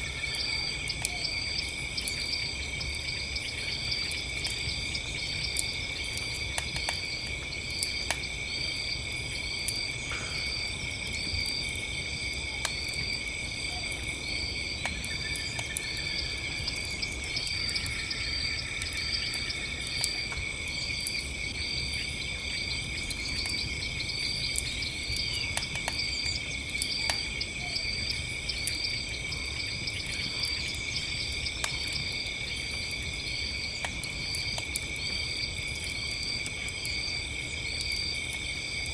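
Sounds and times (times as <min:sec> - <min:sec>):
cricket chirping: 0:00.0 - 0:38.9
crickets trilling: 0:00.0 - 0:38.9
campfire crackling and popping: 0:00.1 - 0:38.9.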